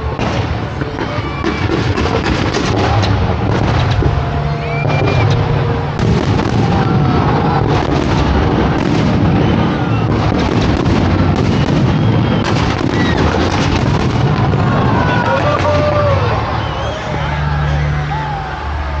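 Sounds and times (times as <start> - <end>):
fireworks bangs and crackles: 0.0 - 17.7
continuous rumble: 0.0 - 19.0.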